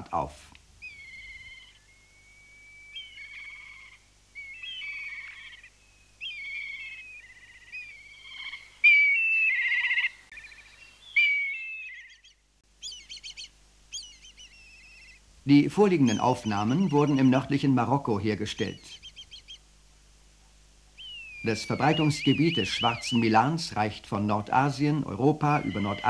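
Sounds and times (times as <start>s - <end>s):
birds of prey whinnying calls: 0.8s - 15.3s, 16.0s - 19.8s, 20.9s - 24.0s, 24.6s - 26.0s.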